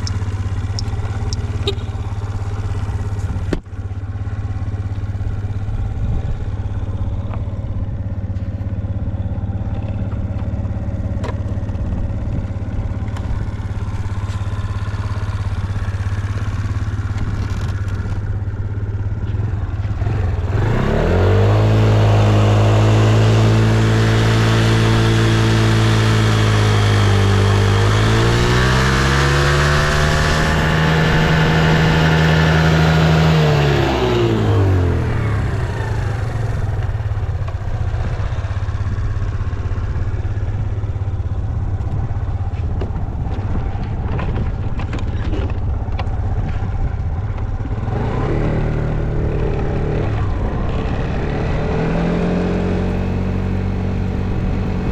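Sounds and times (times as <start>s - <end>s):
scooter engine idling and revving: 0.0s - 54.9s.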